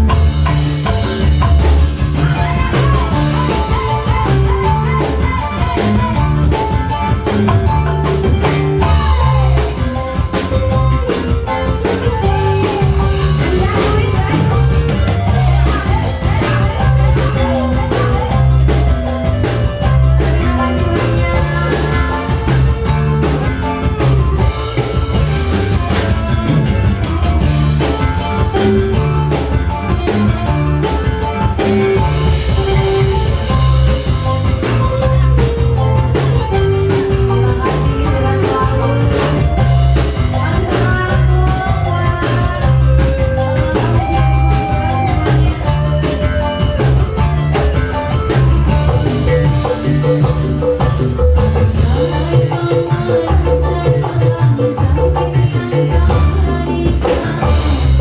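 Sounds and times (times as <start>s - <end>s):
strong bass line: 0.0s - 54.0s, 54.8s - 58.0s
live band music: 0.0s - 58.0s
steady drum beat: 0.0s - 58.0s.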